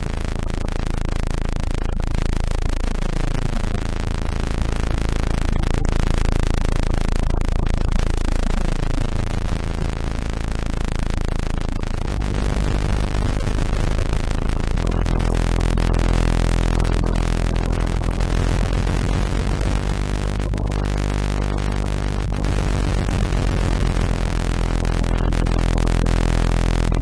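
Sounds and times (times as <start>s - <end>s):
electronic gliding drone tones: 0.0s - 27.0s.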